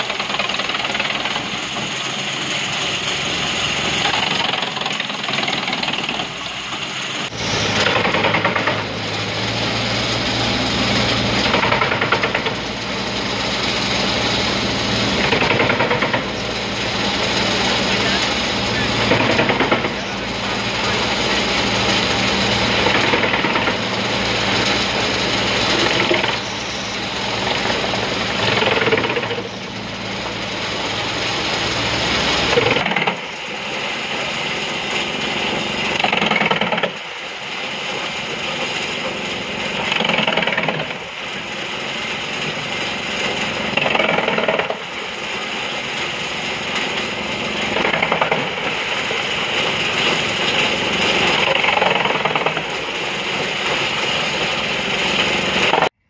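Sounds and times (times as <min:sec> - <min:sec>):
wood chipper chipping logs: 0:00.0 - 0:56.0.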